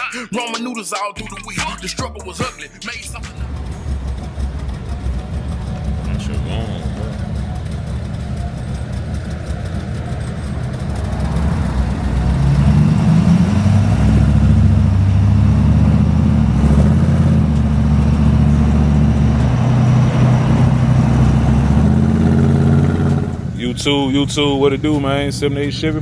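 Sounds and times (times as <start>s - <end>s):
vehicle engine droning: 1.2s - 26.0s.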